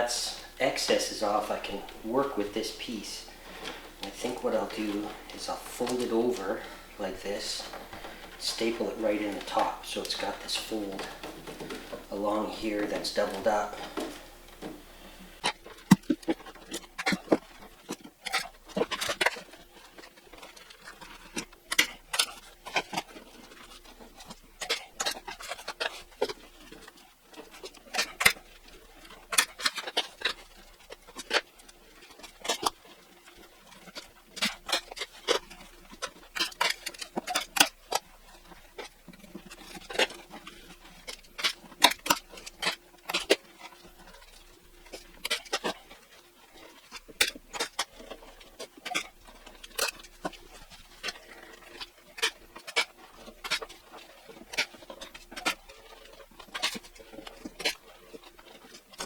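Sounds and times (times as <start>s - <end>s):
pond liner rustling and folding: 0.0s - 59.0s.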